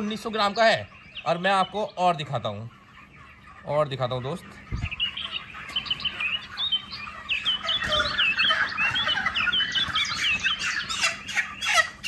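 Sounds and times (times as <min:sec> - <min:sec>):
chickens peeping and chirping: 0:00.0 - 0:12.0.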